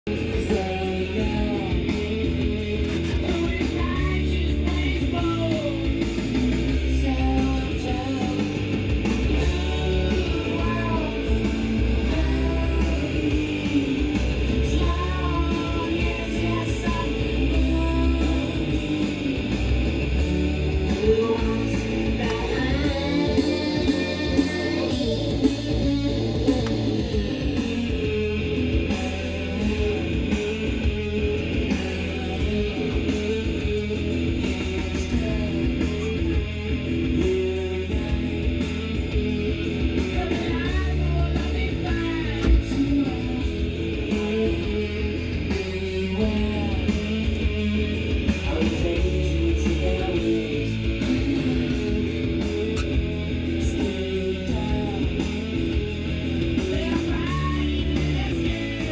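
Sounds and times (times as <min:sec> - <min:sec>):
guitar music from vinyl record: 0:00.1 - 0:58.9.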